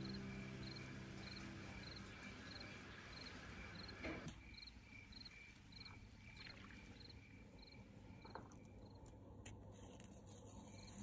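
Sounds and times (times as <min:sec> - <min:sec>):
crickets chirping: 0:00.0 - 0:09.1.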